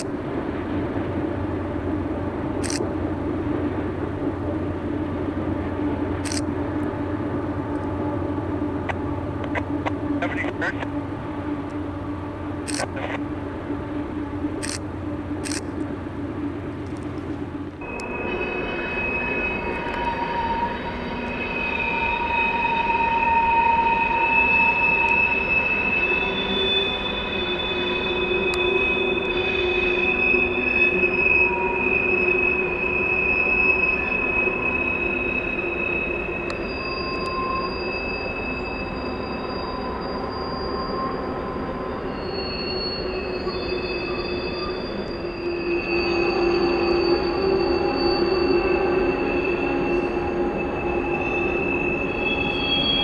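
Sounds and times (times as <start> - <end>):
rumble of train cars: 0.0 - 53.0
train wheel flange squeal: 3.5 - 53.0.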